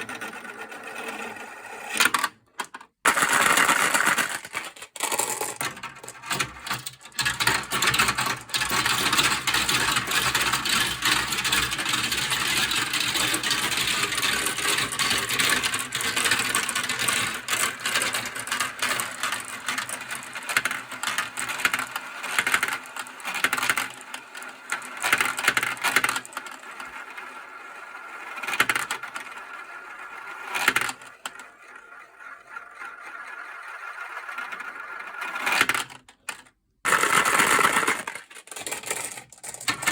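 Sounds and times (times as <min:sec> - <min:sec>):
marbles rattling down plastic track: 0:02.0 - 0:39.9.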